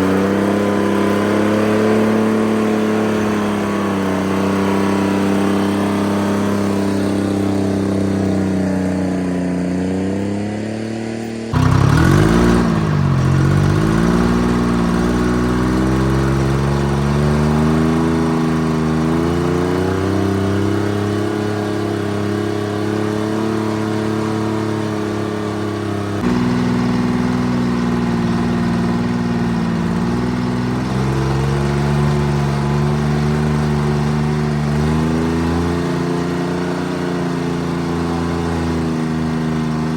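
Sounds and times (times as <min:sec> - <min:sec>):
diesel engine under changing load: 0:00.0 - 0:39.9.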